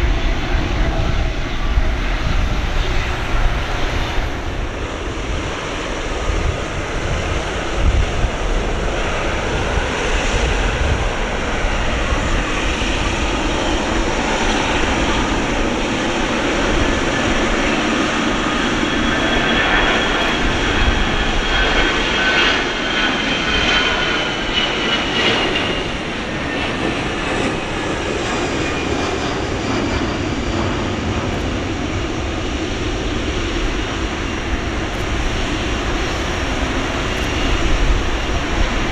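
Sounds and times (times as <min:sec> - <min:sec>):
jet engine whine: 0:00.0 - 0:38.9
loud jet engine noise: 0:00.0 - 0:38.9.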